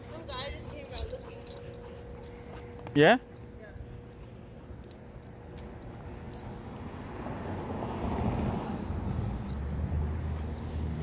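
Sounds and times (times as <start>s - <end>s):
low engine hum: 0.0s - 11.0s
motor vehicle approaching: 0.0s - 11.0s.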